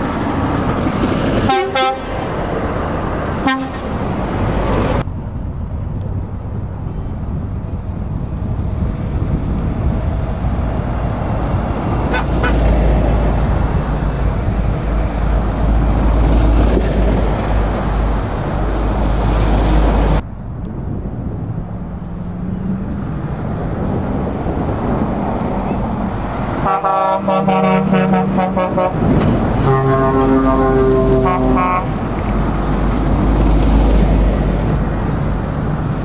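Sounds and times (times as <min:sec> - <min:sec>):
diesel trucks driving past: 0:00.0 - 0:36.0
traffic noise: 0:00.0 - 0:36.0.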